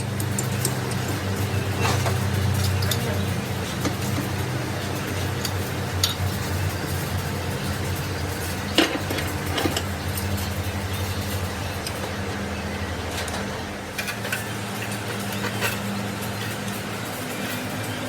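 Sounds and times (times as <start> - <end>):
metal tools clinking: 0.0 - 12.2, 13.1 - 18.0
low machine hum: 0.0 - 18.0.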